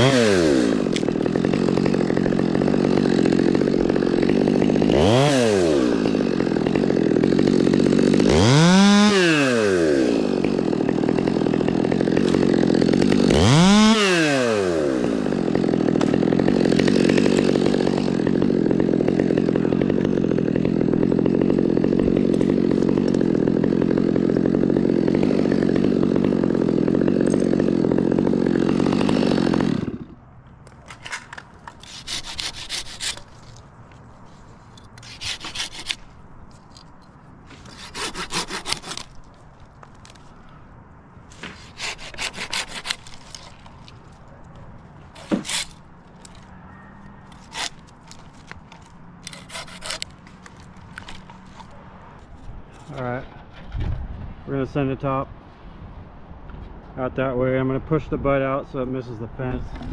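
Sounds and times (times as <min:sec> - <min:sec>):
chainsaw running: 0:00.0 - 0:30.2, 0:30.9 - 0:33.6, 0:34.3 - 0:40.3, 0:41.3 - 0:44.4, 0:45.0 - 0:46.5, 0:47.2 - 0:51.8
hand saw cutting limbs: 0:00.0 - 0:30.2, 0:30.8 - 0:40.3, 0:41.3 - 0:53.8.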